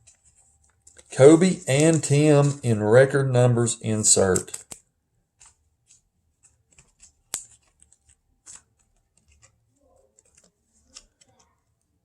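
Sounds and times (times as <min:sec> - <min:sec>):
cardboard cards rustling and clicking: 0:00.0 - 0:03.0, 0:04.0 - 0:12.0.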